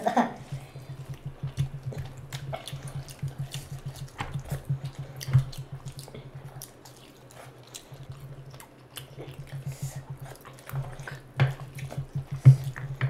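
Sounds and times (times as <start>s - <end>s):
chewing and lip smacks: 0.4s - 13.0s.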